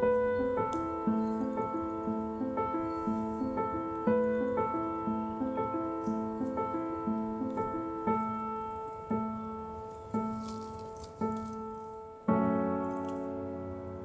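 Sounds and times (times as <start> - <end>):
soft solo piano: 0.0 - 14.0.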